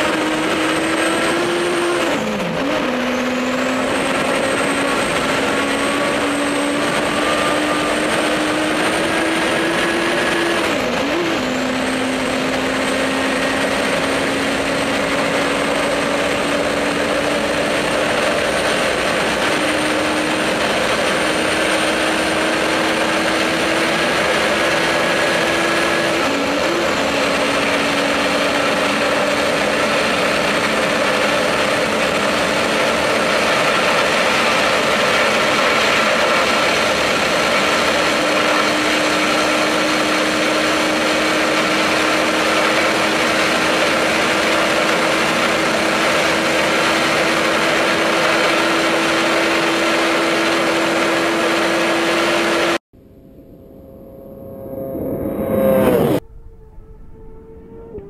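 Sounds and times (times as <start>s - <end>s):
motorcycle engine roaring with whine: 0.0s - 58.0s.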